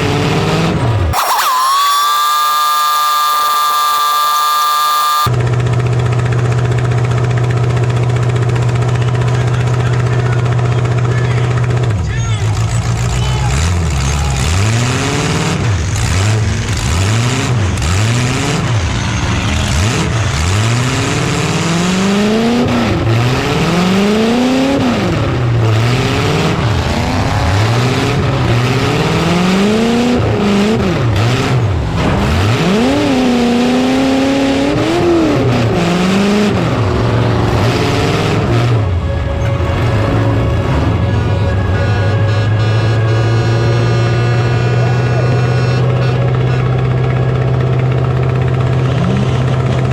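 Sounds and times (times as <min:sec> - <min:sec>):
truck engine revving: 0:00.0 - 0:05.4, 0:06.4 - 0:49.9.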